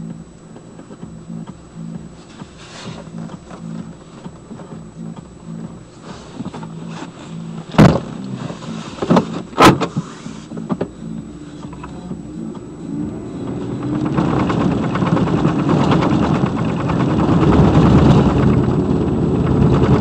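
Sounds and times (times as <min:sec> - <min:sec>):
driveshaft clunks: 0:00.0 - 0:20.0
low pulsing vehicle drone: 0:00.0 - 0:20.0.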